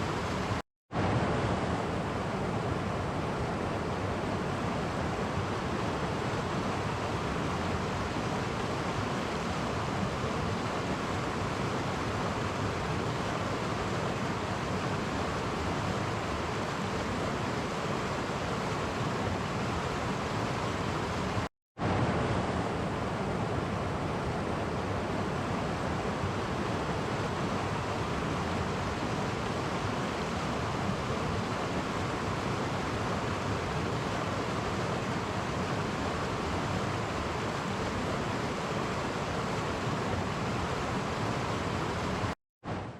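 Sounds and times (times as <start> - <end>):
stream water rushing over cascades: 0.0 - 42.9.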